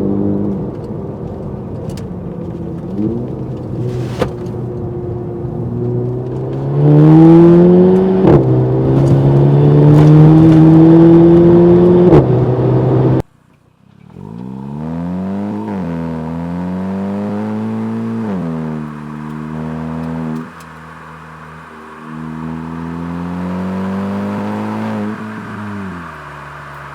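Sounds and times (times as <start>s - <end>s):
car engine accelerating hard: 0.0s - 13.3s, 13.9s - 26.9s.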